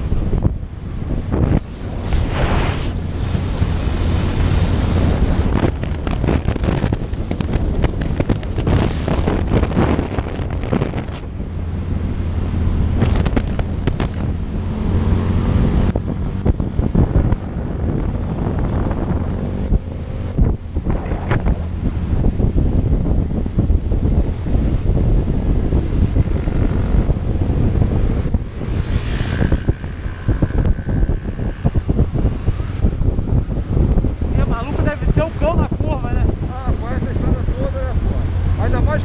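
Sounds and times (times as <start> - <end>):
motorcycle engine drone: 0.0 - 39.0
wind buffeting microphone: 0.0 - 39.0.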